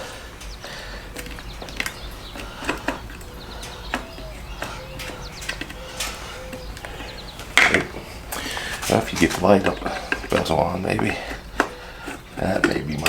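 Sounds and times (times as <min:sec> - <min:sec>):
clicks and knocks of hand tools: 0:00.0 - 0:13.0.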